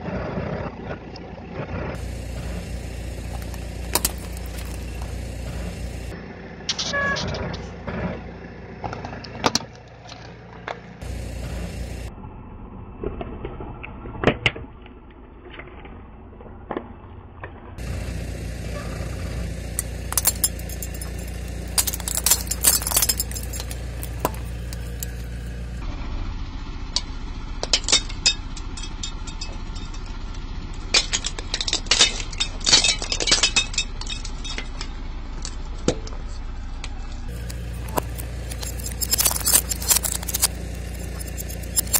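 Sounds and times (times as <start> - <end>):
car engine idling: 1.4 - 6.7, 7.4 - 12.8, 17.8 - 41.9.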